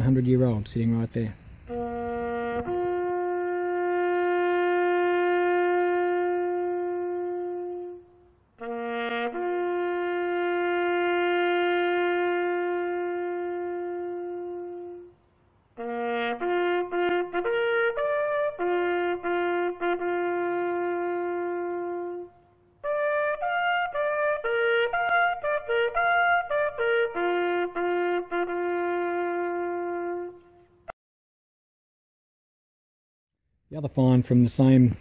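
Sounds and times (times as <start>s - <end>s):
solo bugle call: 1.7s - 15.2s, 15.8s - 31.0s.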